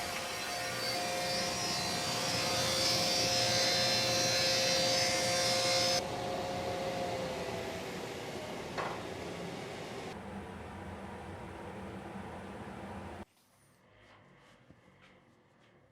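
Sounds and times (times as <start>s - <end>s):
high cutting noise of planing: 0.0s - 13.2s
woodworking machine humming: 0.0s - 13.2s.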